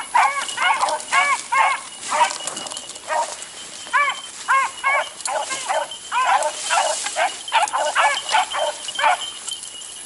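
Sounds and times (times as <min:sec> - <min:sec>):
hounds barking: 0:00.0 - 0:09.5.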